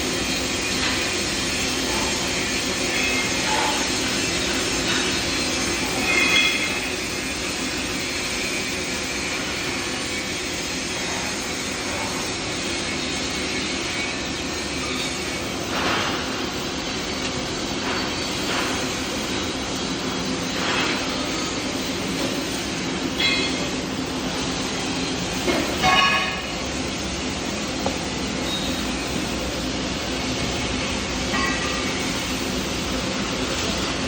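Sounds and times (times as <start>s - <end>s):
machine hum and hiss: 0.0s - 34.0s.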